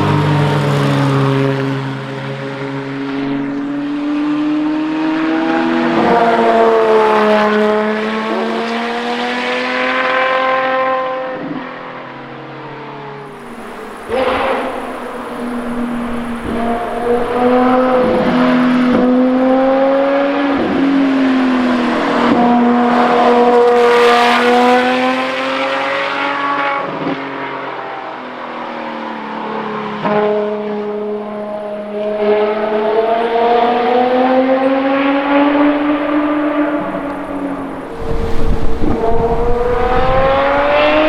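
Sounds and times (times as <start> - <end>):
race car engine at high revs: 0.0 - 41.0.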